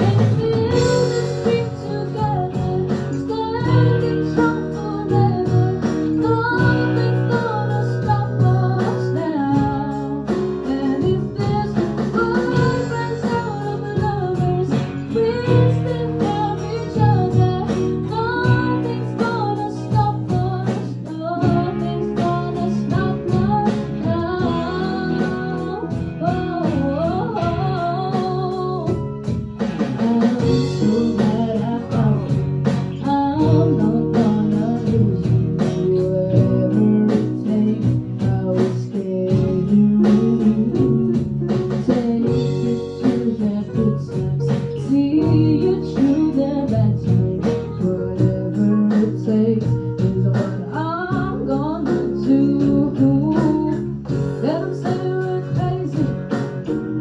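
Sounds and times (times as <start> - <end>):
guitar accompaniment: 0.0 - 57.0
person singing: 0.0 - 57.0.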